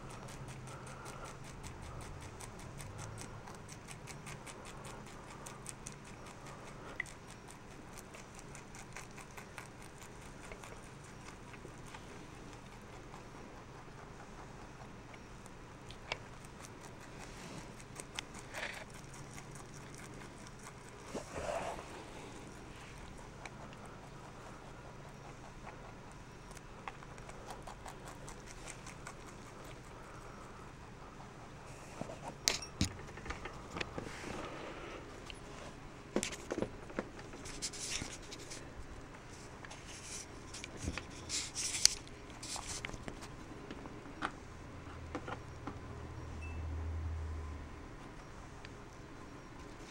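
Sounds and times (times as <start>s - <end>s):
rabbit chewing carrot tops: 0.0s - 46.3s, 47.7s - 49.9s.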